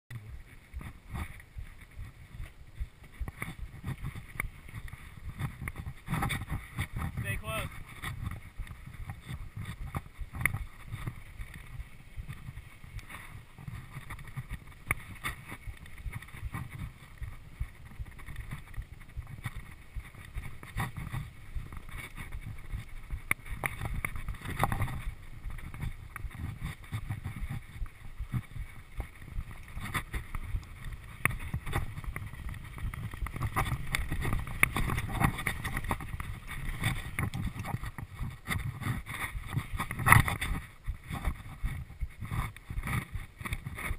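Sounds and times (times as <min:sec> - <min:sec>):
bike rattling over bumps: 0:00.1 - 0:43.9
tyres on dirt: 0:00.1 - 0:43.9
wind on microphone: 0:00.1 - 0:43.9.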